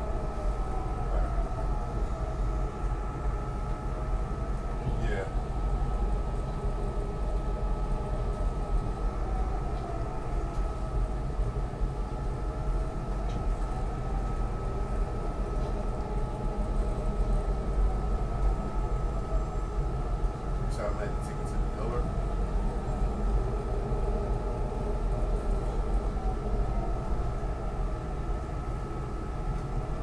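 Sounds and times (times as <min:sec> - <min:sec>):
constant high hum: 0:00.0 - 0:30.0.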